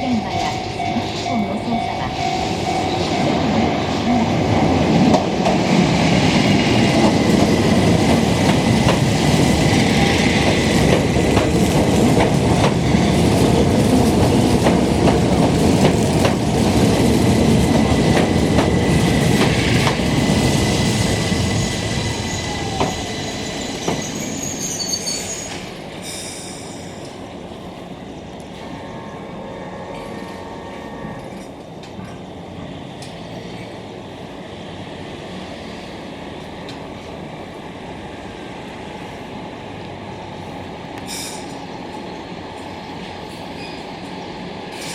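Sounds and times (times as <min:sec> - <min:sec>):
train running on rails: 0:00.0 - 0:44.9.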